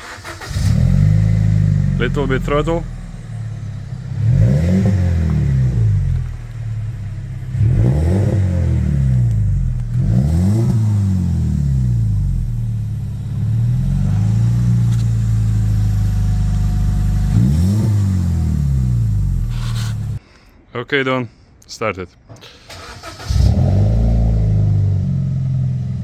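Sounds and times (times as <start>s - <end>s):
car engine idling and revving: 0.0s - 20.2s, 22.7s - 26.0s.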